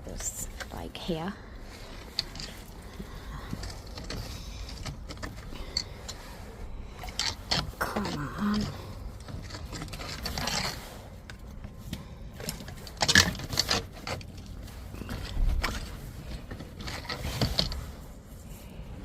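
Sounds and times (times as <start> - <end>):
drain rods scraping and knocking: 1.6 - 18.0.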